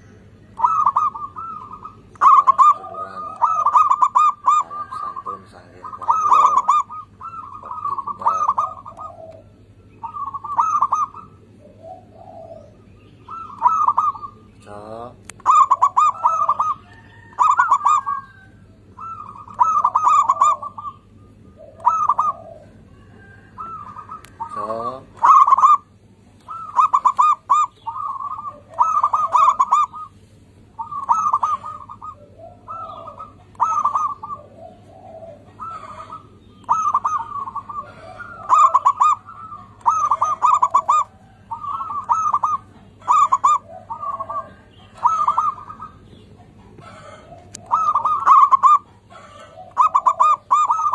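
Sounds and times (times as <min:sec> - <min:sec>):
dove trilling coos: 0:00.0 - 0:50.9.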